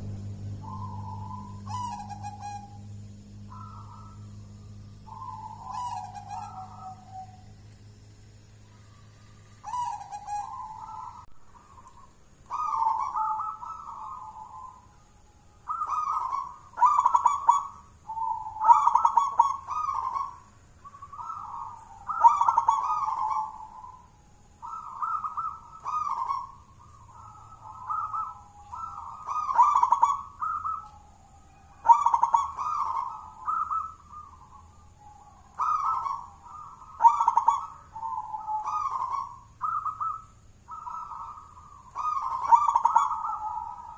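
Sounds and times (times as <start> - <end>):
dove cooing: 0.0 - 7.6, 8.6 - 43.9.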